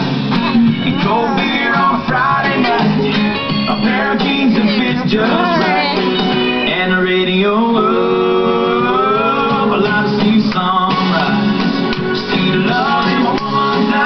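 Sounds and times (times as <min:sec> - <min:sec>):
acoustic guitar: 0:00.0 - 0:14.0
man singing: 0:00.3 - 0:14.0.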